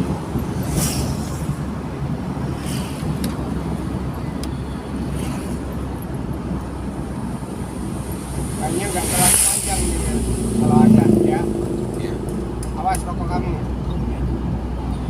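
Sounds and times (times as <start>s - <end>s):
road hiss: 0.0s - 14.8s
car interior rumble: 0.0s - 15.0s.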